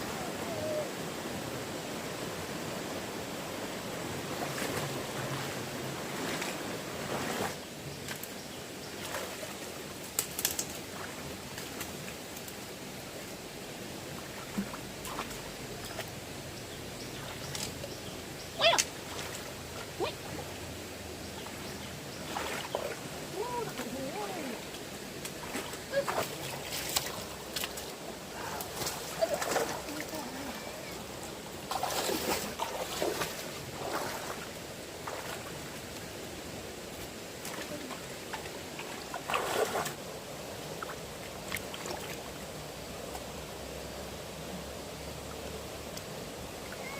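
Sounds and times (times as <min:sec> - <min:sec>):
fast-flowing stream water: 0:00.0 - 0:46.9.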